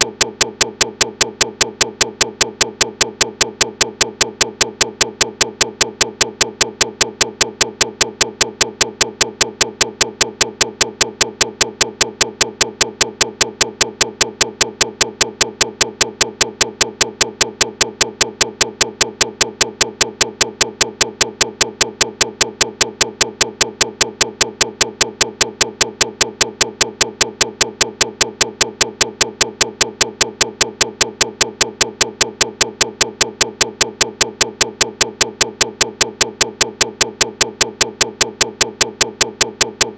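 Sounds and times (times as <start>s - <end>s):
rapid even digital clicking: 0.0s - 39.9s.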